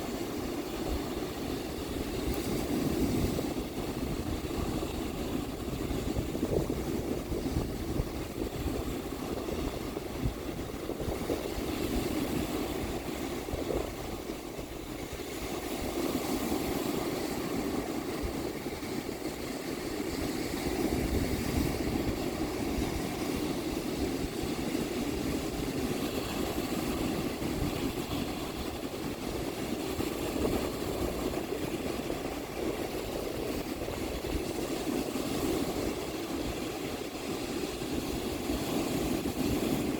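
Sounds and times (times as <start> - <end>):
ocean surf rolling onto beach: 0.0 - 39.9
wind buffeting microphone: 0.0 - 39.9.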